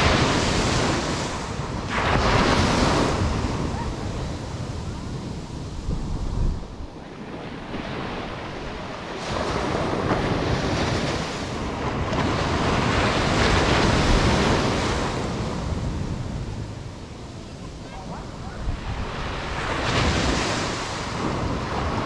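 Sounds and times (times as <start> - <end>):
wave breaking on shore: 0.0 - 22.0
wind rumbling on microphone: 0.0 - 22.0.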